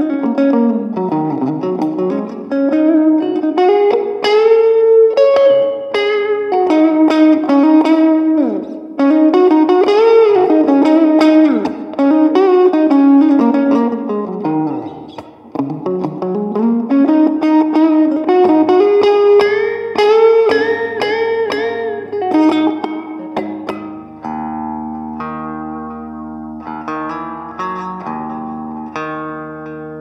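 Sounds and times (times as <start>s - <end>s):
electric guitar melody with bends: 0.0s - 30.0s.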